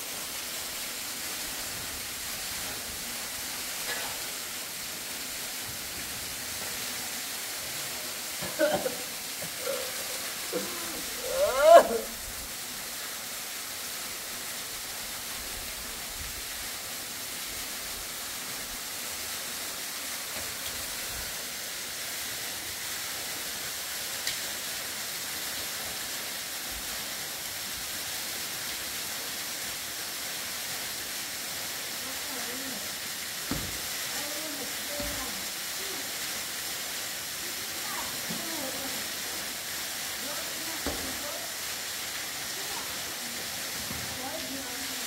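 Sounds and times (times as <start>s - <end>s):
wood fire hissing: 0.0s - 45.0s.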